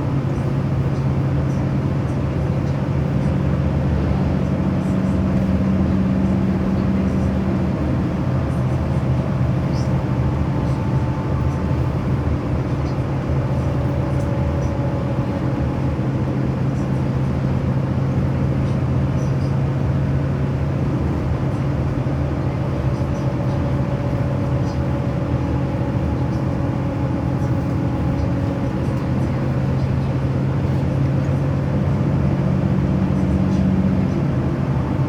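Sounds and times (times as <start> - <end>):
vehicle engine droning: 0.0 - 35.0.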